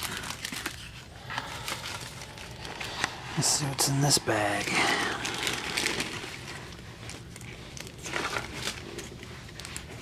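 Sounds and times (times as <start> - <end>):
plastic bag crinkling: 0.0 - 3.6, 4.3 - 10.0
paper candy wrappers crinkling: 0.0 - 10.0.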